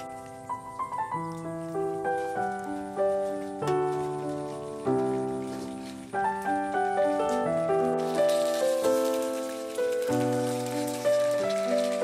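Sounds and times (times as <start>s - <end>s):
faint hiss: 0.0s - 12.0s
instrumental background music: 0.0s - 12.0s.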